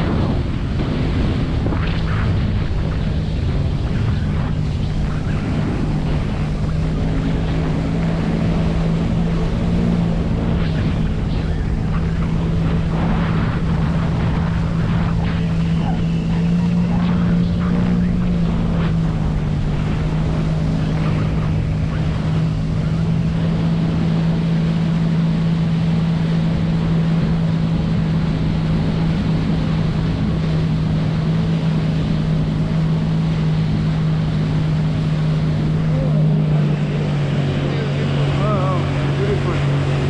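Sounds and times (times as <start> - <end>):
jet ski engine running: 0.0 - 40.0
wind and water rushing: 0.0 - 40.0.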